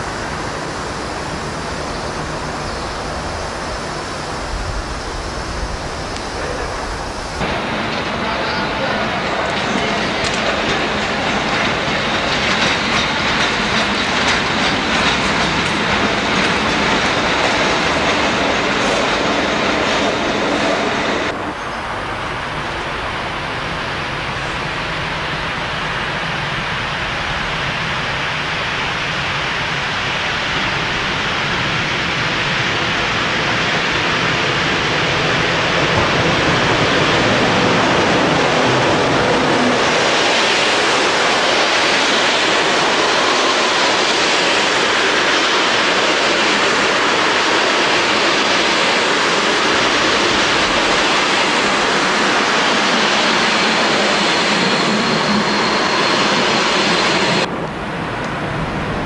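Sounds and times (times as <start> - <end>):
train wheels rushing on rail: 0.0 - 59.0.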